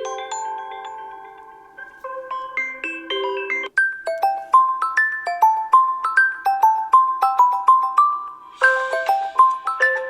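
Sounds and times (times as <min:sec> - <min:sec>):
bell-like mallet ringtone: 0:00.0 - 0:10.0
chiming ringtone melody: 0:00.0 - 0:10.0.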